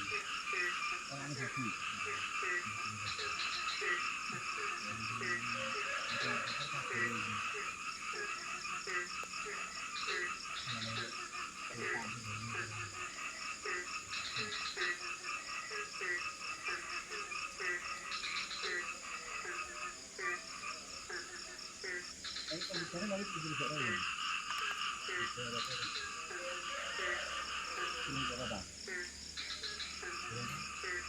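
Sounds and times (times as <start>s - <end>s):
frogs croaking: 0.0s - 31.0s
high-pitched frog and insect calls: 0.0s - 31.0s.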